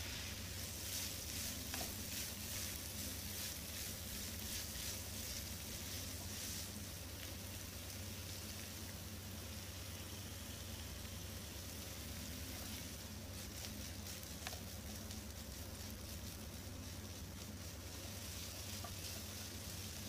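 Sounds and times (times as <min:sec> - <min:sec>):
spatula stirring food: 0:00.0 - 0:08.8, 0:11.9 - 0:20.0
food sizzling in a frying pan: 0:00.0 - 0:20.0
steady low hum: 0:00.0 - 0:20.0.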